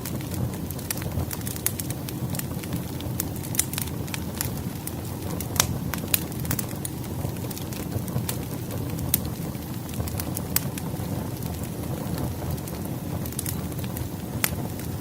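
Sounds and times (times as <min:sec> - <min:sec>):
logs crackling and popping: 0:00.0 - 0:15.0
wood fire flames rumbling: 0:00.0 - 0:15.0.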